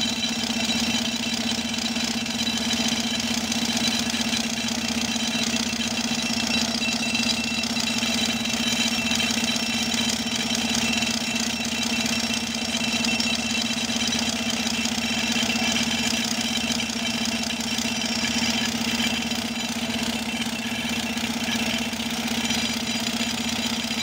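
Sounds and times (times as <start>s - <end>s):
pneumatic rock drill hammering: 0.0s - 24.0s
tractor diesel engine: 0.0s - 24.0s.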